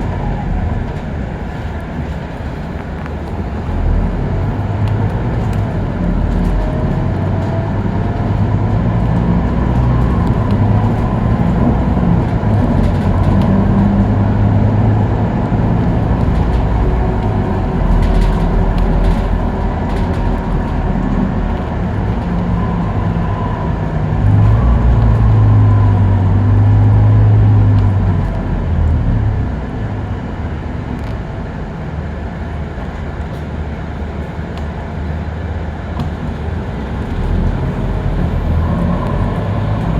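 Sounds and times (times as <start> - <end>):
bus diesel engine droning: 0.0 - 39.9
road noise: 0.0 - 39.9.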